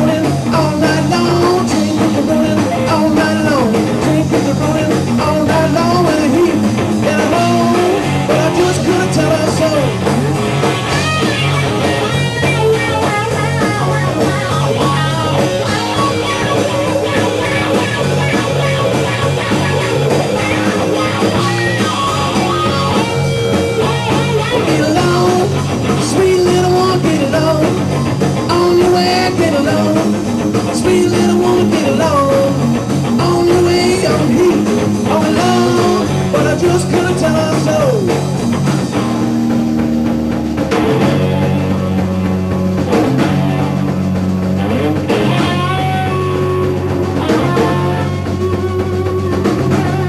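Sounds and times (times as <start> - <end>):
bass and drums: 0.0 - 50.0
lead guitar with bent notes: 0.0 - 50.0.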